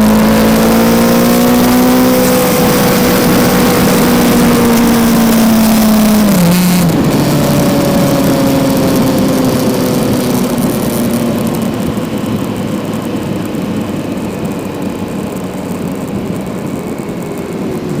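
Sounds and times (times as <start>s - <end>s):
motorcycle engine slowing down: 0.0s - 18.0s
wind rush: 0.0s - 18.0s.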